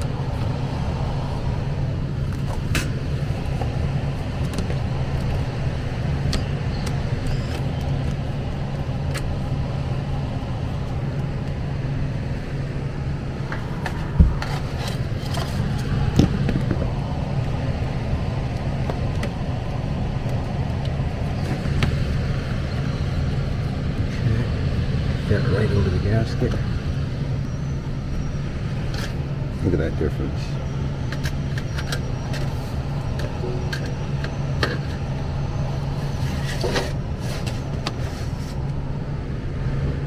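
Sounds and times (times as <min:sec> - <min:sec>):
furnace blower motor humming: 0:00.0 - 0:40.0.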